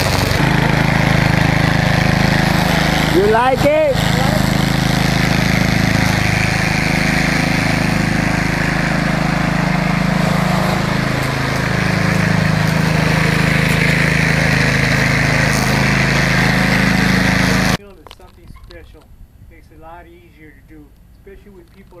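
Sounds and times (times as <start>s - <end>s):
string trimmer engine running: 0.0s - 17.8s.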